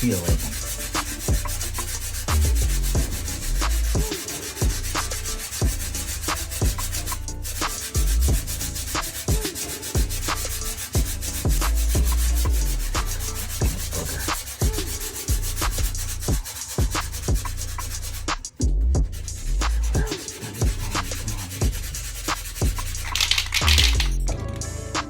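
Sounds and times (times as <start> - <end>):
sandpaper rubbing: 0.0 - 24.3.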